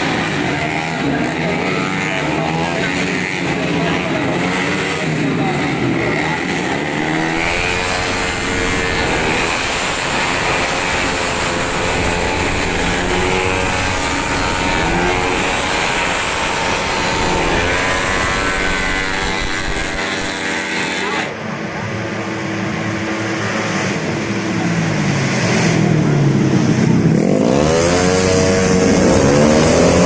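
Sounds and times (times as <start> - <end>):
scooter engines revving: 0.0 - 30.0.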